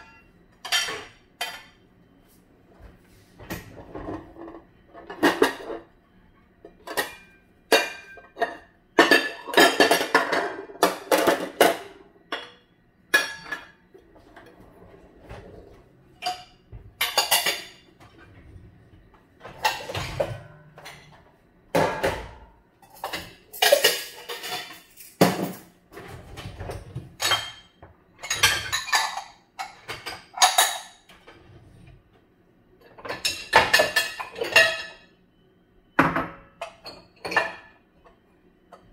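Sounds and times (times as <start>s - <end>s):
dishes and cutlery clattering: 0.0s - 1.8s, 3.4s - 6.0s, 6.6s - 32.0s, 32.8s - 35.2s, 36.0s - 38.9s.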